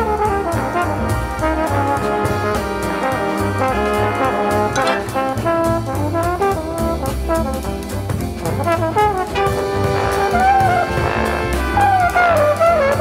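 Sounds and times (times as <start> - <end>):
big band jazz music: 0.0 - 13.0
steady drum beat: 0.0 - 13.0
trombones and trumpets playing: 0.0 - 13.0.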